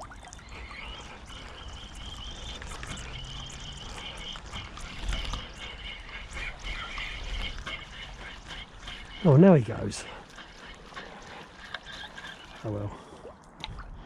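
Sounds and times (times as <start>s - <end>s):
waterfowl calling: 0.1s - 13.1s.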